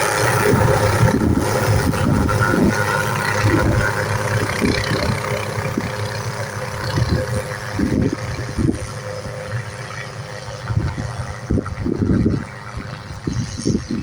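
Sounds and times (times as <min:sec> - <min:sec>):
helicopter rotor beat: 0:00.0 - 0:14.0
helicopter turbine whine: 0:00.0 - 0:14.0.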